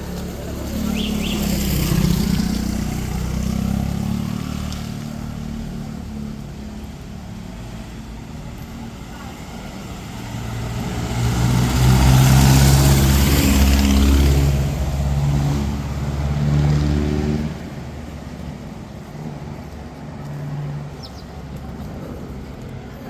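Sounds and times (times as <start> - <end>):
vehicle engine passing: 0.0 - 6.6, 8.8 - 23.0.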